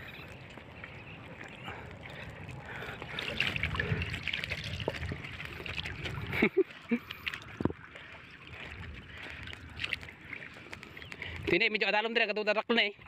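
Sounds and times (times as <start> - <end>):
low steady rumble: 0.0 - 11.1
water sloshing around hands: 0.0 - 11.6.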